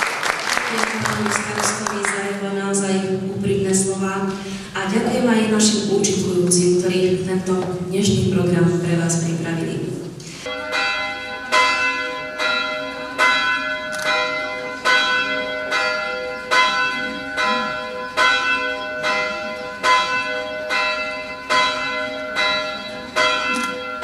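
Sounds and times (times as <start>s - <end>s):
church bell ringing: 0.0s - 24.0s.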